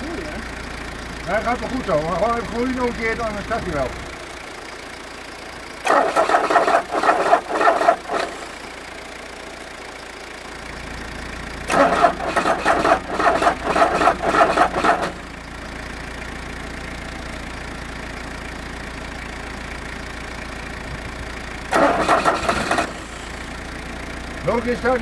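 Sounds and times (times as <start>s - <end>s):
diesel engine cranking: 0.0s - 25.0s.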